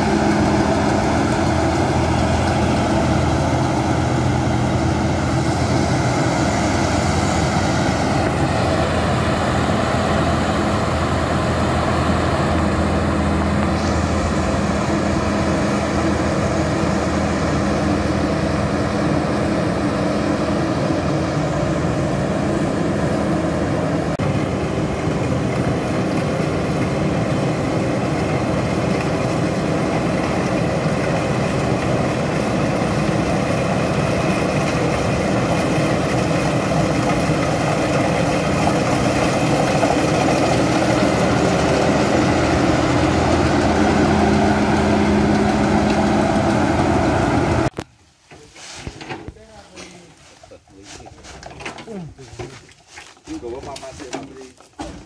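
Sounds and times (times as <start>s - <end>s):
combine harvester drone: 0.0s - 47.8s.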